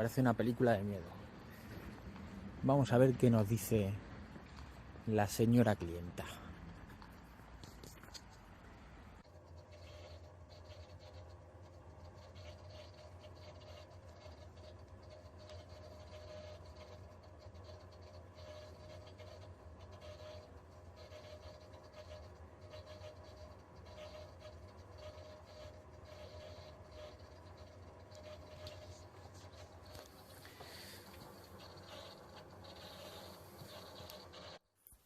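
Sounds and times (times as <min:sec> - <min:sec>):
circulation pump humming: 0:00.0 - 0:34.6.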